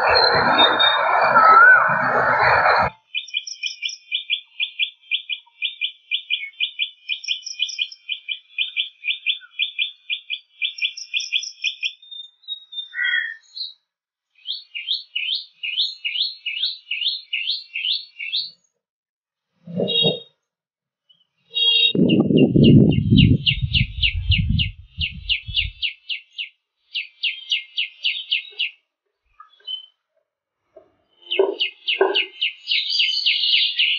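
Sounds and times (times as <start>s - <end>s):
songbird singing: 0.0s - 13.8s, 14.4s - 18.7s, 19.7s - 20.3s, 21.1s - 30.0s, 30.8s - 33.9s.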